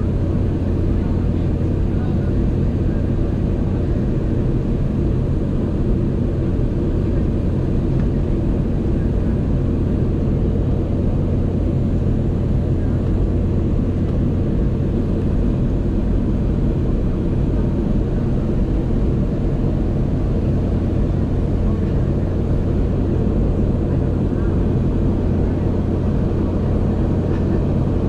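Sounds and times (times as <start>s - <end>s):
airplane cabin rumble: 0.0s - 28.0s
steady low hum: 0.0s - 28.0s.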